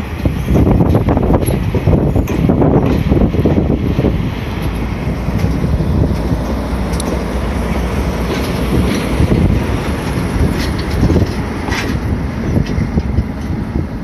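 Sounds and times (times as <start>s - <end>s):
train cars rumbling: 0.0s - 14.0s
wheels clicking over rails: 0.0s - 14.0s.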